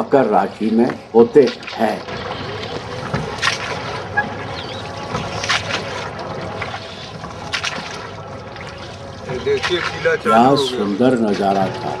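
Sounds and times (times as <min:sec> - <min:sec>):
water lapping around boat: 0:00.0 - 0:12.0
oars splashing water: 0:00.3 - 0:12.0.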